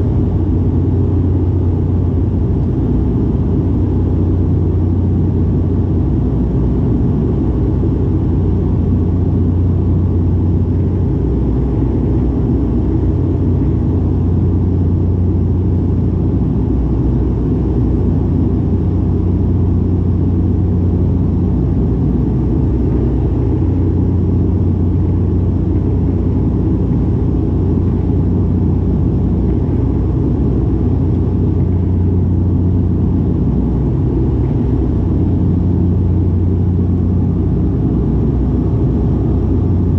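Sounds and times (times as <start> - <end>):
propeller drone in aircraft cabin: 0.0 - 39.9.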